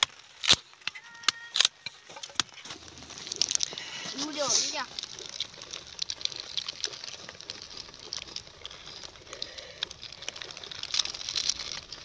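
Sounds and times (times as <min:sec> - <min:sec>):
plastic wrapper crinkling: 0:00.0 - 0:12.0
wooden kindling clicking: 0:00.0 - 0:12.0.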